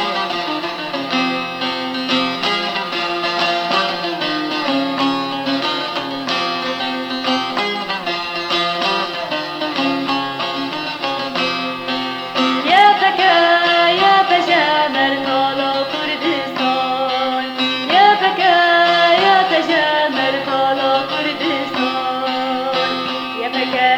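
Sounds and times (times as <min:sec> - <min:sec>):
person singing: 0:00.0 - 0:23.9
plucked string instrument melody: 0:00.0 - 0:23.9.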